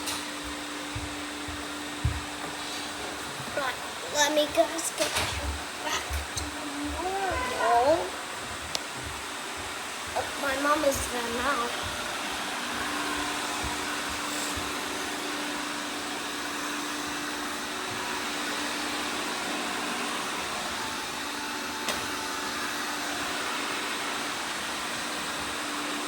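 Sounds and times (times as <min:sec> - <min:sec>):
robot vacuum cleaners whirring: 0:00.0 - 0:26.0.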